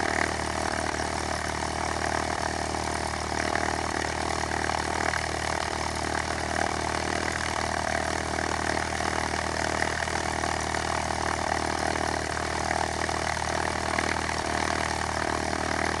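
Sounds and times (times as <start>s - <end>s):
propeller plane engine running: 0.0s - 16.0s.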